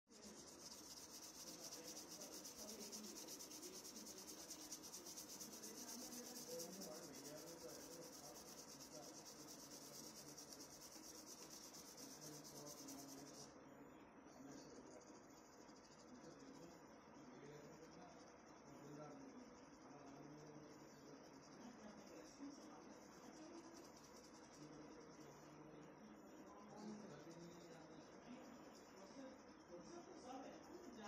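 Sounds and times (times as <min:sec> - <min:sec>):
cricket trilling: 0:00.1 - 0:13.5, 0:14.3 - 0:31.0
distant insect trill: 0:00.1 - 0:31.0.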